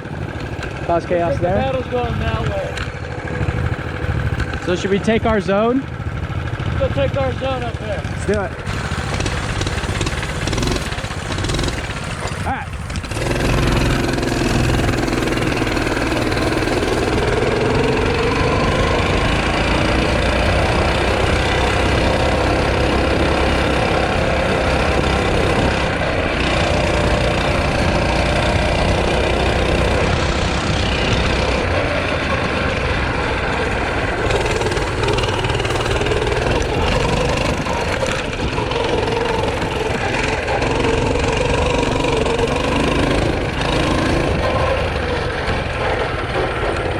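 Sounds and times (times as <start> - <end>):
motorbike engine running: 0.0 - 46.9.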